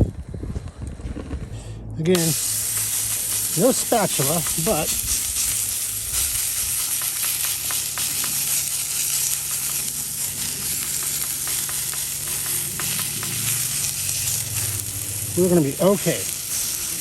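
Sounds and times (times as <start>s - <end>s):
patties sizzling in hot fat: 2.2s - 17.0s.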